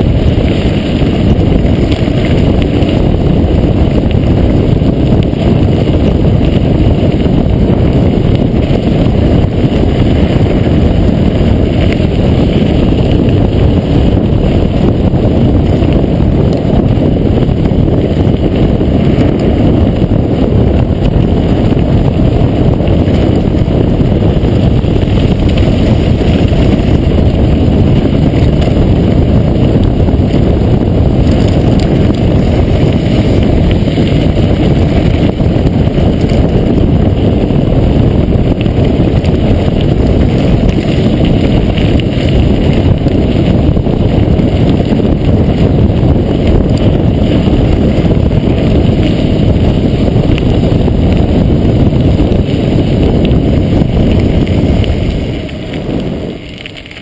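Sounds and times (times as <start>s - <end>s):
bike shaking: 0.0s - 57.0s
bike tyres rumbling on gravel: 0.0s - 57.0s
wind on microphone: 0.0s - 57.0s.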